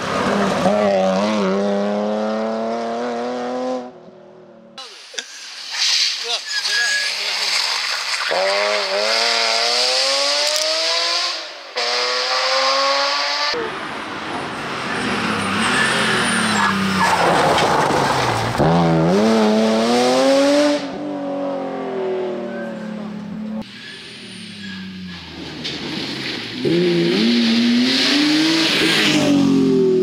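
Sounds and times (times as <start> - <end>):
rally car engine revving: 0.0 - 4.0, 7.0 - 30.0.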